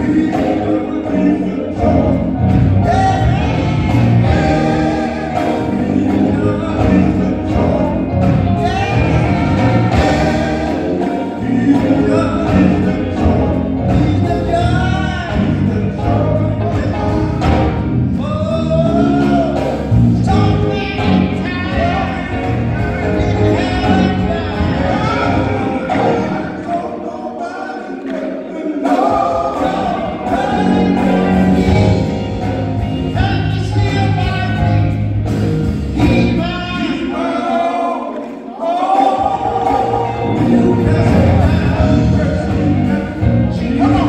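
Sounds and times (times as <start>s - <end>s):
gospel singing: 0.0s - 44.0s
musical accompaniment: 0.0s - 44.0s.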